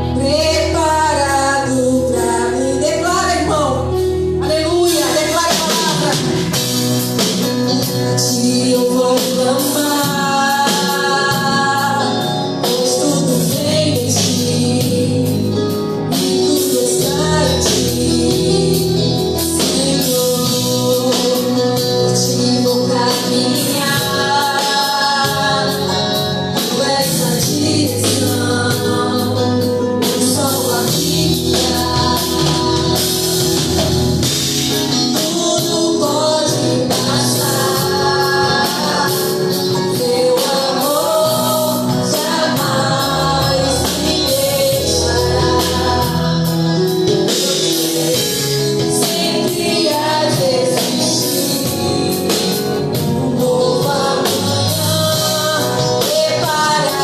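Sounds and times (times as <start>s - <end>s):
gospel song with church band: 0.0s - 57.0s.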